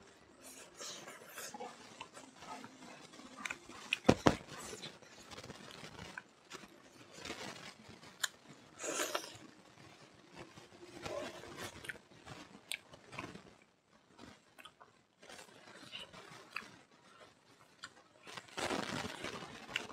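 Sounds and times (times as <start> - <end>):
soft chewing and mouth smacks: 0.3 - 9.6, 10.4 - 18.5.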